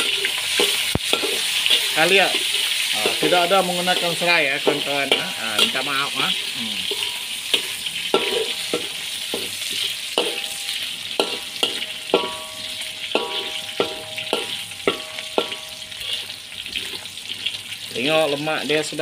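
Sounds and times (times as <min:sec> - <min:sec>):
spatula scraping and knocking wok: 0:00.0 - 0:17.9
food sizzling in hot oil: 0:00.0 - 0:19.0.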